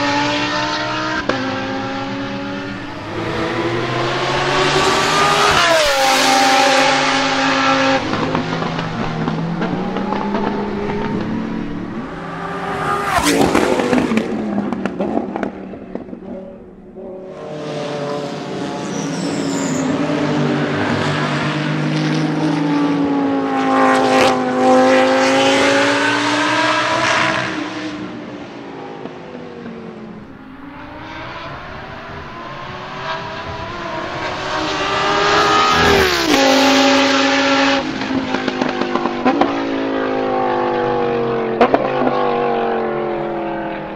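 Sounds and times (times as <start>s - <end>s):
race cars passing by: 0.0s - 43.9s.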